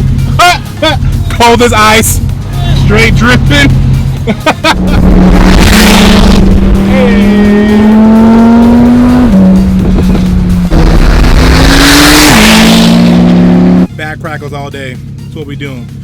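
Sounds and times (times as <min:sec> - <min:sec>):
sports car accelerating: 0:00.0 - 0:14.0.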